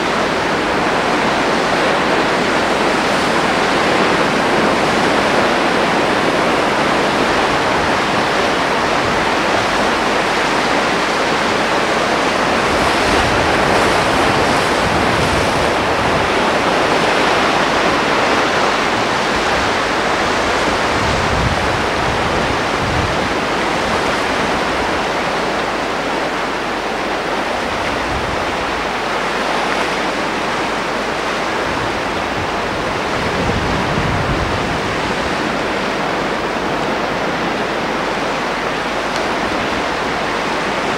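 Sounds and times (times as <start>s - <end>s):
sea surf rushing: 0.0s - 40.9s
wind buffeting microphone: 0.0s - 40.9s.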